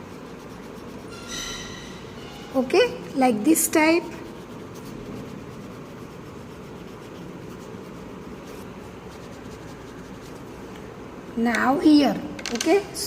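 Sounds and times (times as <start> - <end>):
colouring strokes rubbing on paper: 0.0 - 10.7.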